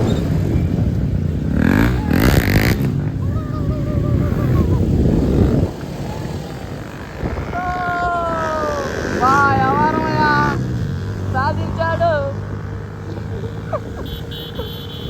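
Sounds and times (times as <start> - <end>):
motorcycle and car engines rumbling: 0.0 - 15.0.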